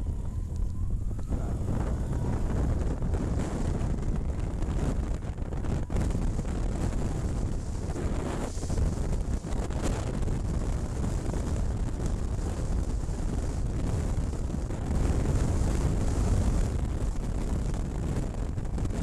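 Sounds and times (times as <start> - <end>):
road noise: 0.0 - 19.0
wind rushing over microphone: 0.0 - 19.0.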